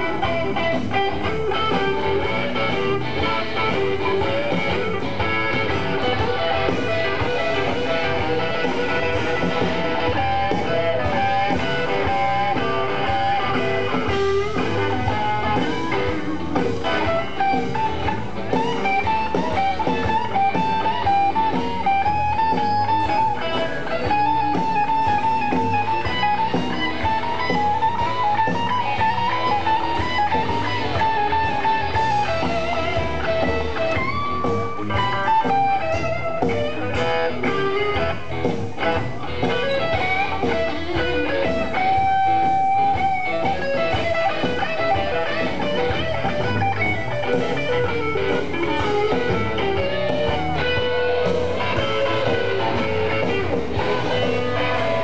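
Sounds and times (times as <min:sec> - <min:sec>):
electric guitar lead with bent notes: 0:00.0 - 0:55.0
live blues band playing: 0:00.0 - 0:55.0.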